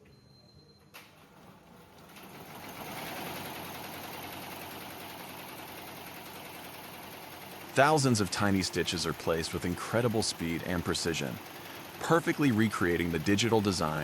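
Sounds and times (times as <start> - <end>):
embroidery machine stitching: 1.2 - 14.0.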